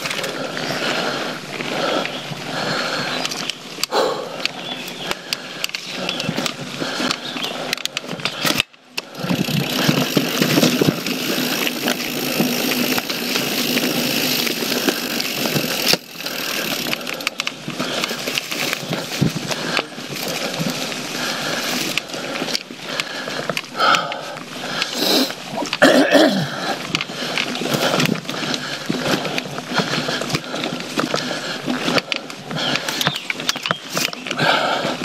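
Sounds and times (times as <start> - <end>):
bike chain rattling: 0.0 - 35.0
bike tyres rolling on dirt: 0.0 - 35.0.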